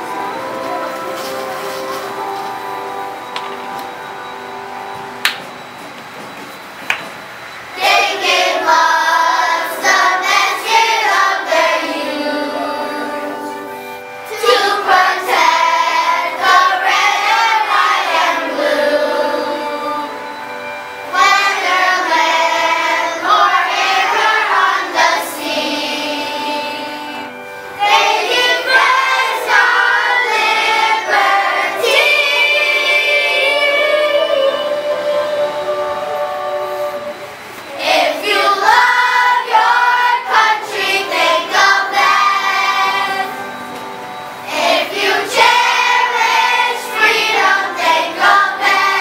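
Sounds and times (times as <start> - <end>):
children singing together: 7.7 - 49.0.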